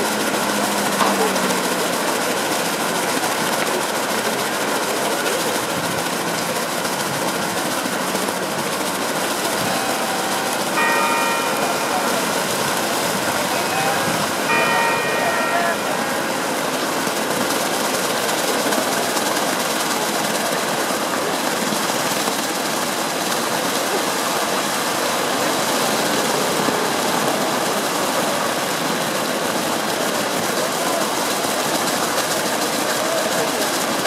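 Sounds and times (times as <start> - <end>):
fountain water splashing: 0.0 - 34.0.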